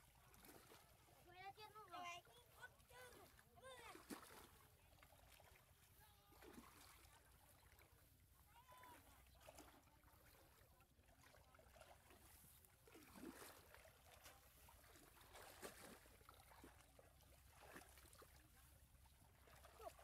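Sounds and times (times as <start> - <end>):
muddy water splashing: 0.0 - 20.0.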